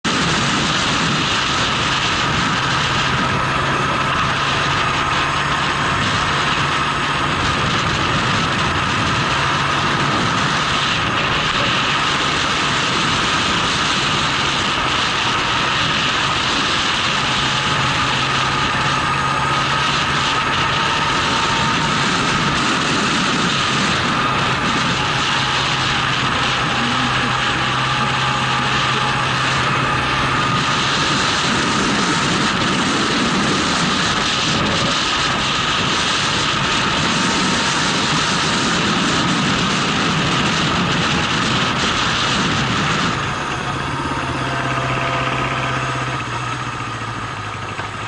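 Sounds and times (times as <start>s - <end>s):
motorcycle engine running: 0.0s - 48.0s
wind noise: 0.0s - 48.0s.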